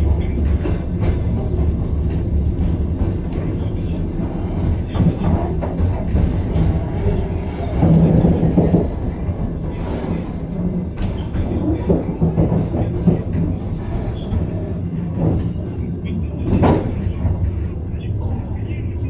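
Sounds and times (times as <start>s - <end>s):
train rumble from inside carriage: 0.0s - 19.0s.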